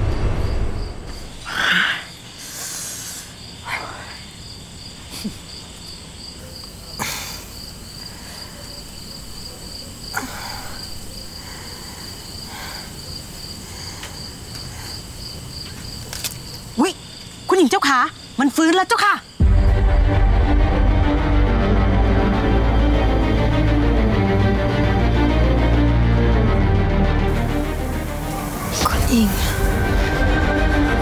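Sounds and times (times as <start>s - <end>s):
crickets chirping: 0.0s - 20.4s, 22.4s - 31.0s.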